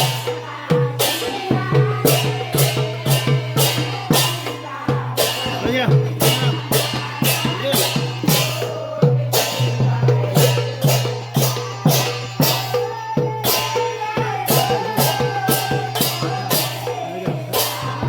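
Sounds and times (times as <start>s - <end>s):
folk song with drums: 0.0s - 18.0s
sharp percussive strikes: 0.0s - 18.0s.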